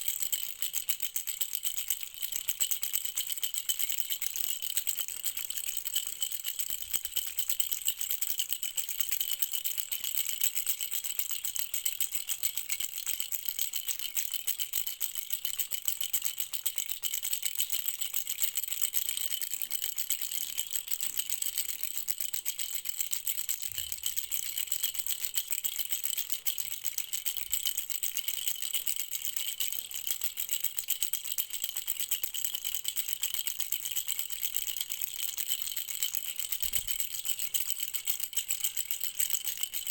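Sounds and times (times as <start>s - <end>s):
rattle shaken: 0.0s - 39.9s.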